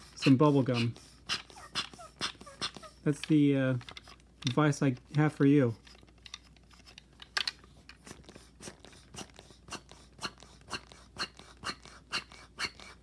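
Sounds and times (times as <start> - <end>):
toy hand pump clicking: 0.2 - 13.0.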